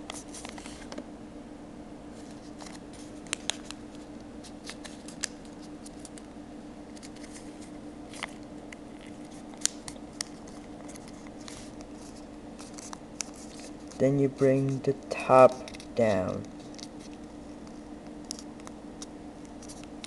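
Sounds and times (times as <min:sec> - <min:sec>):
steady low hum: 0:00.0 - 0:20.0
paper folding and creasing: 0:00.1 - 0:01.0, 0:02.2 - 0:06.3, 0:06.9 - 0:18.7.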